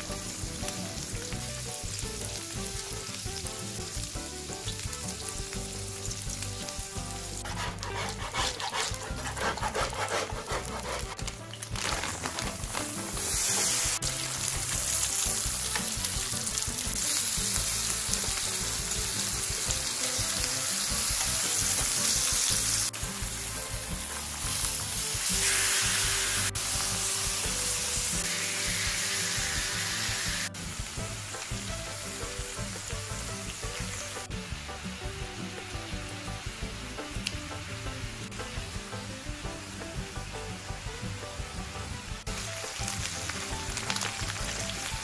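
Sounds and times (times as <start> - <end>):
food sizzling on griddle: 0.0 - 45.0.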